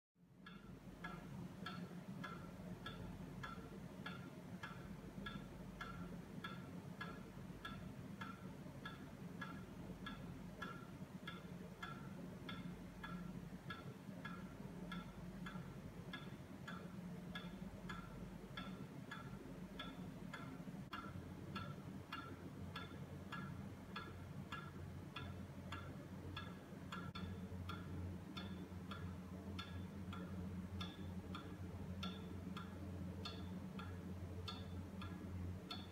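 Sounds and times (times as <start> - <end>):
pendulum clock ticking: 0.2 - 35.9
steady low hum: 0.2 - 35.9.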